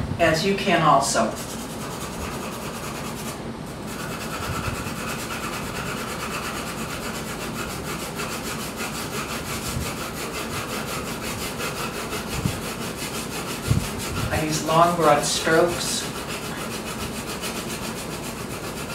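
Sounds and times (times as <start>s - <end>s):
pencil scratching on paper: 1.2s - 18.9s.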